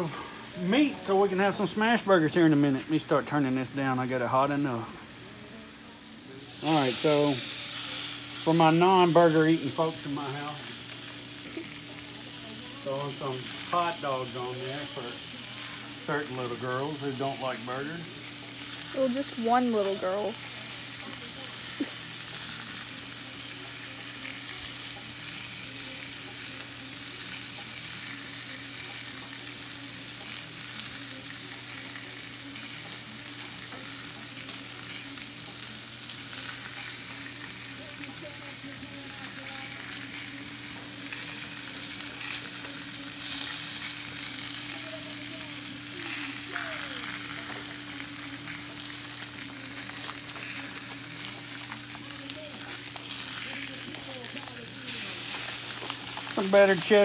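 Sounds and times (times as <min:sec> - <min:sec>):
hot dogs sizzling on griddle: 0:00.0 - 0:57.0.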